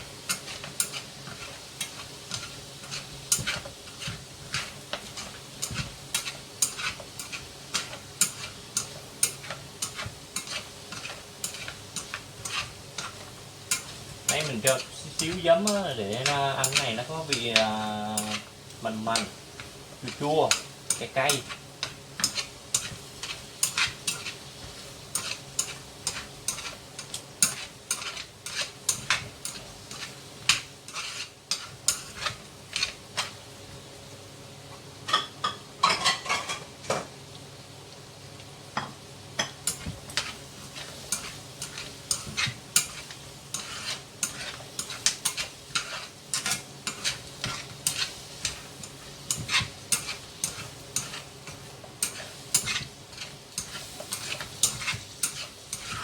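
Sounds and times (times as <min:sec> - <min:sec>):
meat sizzling in a pan: 0:00.0 - 0:56.0
utensil clicking against pan: 0:00.2 - 0:24.4, 0:25.1 - 0:32.1, 0:39.7 - 0:56.0.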